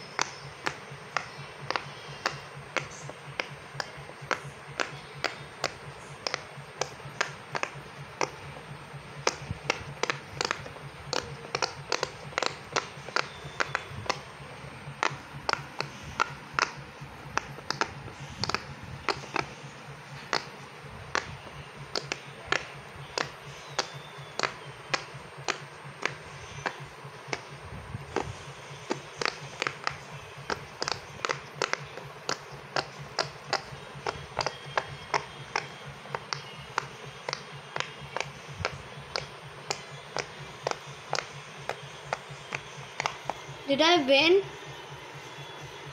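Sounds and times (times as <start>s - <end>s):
fidget toy bubbles popping: 0.2s - 8.5s, 9.2s - 43.5s.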